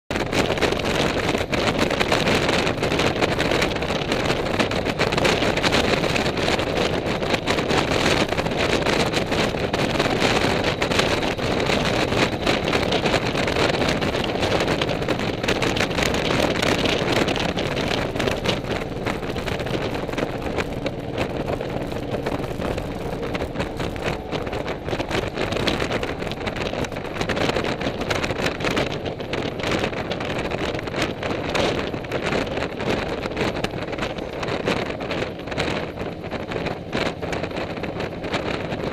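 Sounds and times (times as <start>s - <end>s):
motorcycle engine cruising: 0.1s - 38.9s
wind rushing over microphone: 0.1s - 38.9s.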